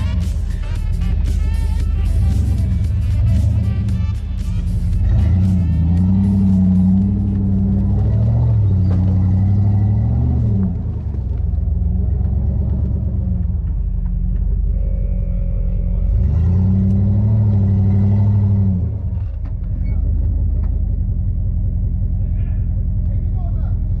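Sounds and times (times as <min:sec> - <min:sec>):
vehicle engine running hard: 0:00.0 - 0:24.0.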